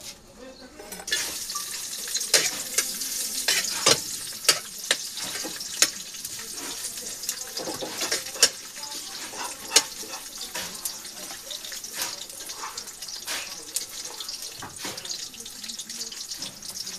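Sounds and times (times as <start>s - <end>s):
running water hissing: 1.1s - 16.9s.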